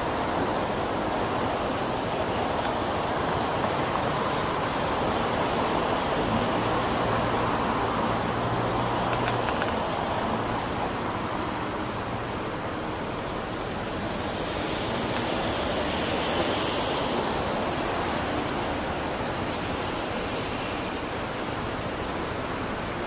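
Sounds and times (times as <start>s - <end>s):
road traffic rushing: 0.0s - 23.0s.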